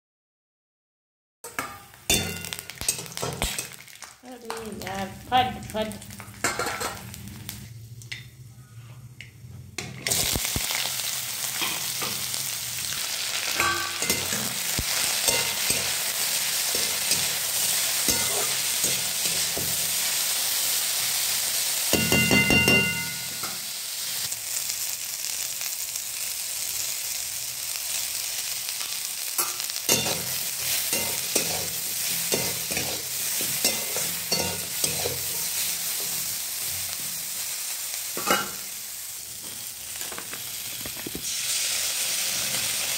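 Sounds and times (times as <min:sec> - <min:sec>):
vegetables sizzling in hot oil: 0:01.5 - 0:08.2, 0:09.8 - 0:42.9.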